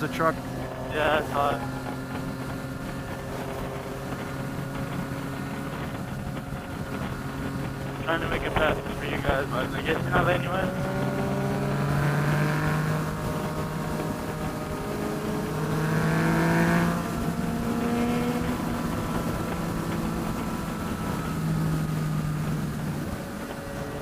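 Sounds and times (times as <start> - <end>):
motorcycle engine under way: 0.0 - 24.0.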